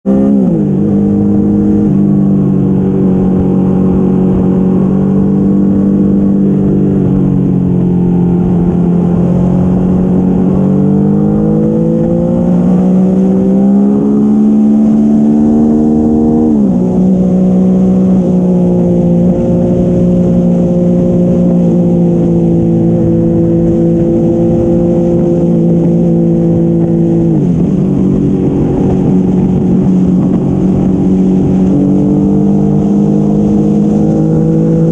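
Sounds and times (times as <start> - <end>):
motorcycle engine running: 0.0 - 34.9
wind on microphone: 0.0 - 34.9.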